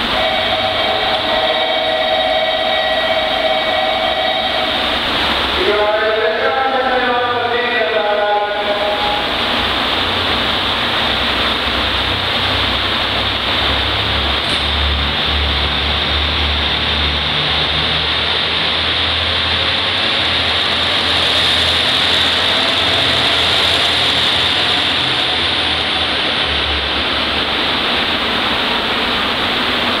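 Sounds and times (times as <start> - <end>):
diesel railcar passing: 0.0 - 30.0
steady hiss: 0.0 - 30.0.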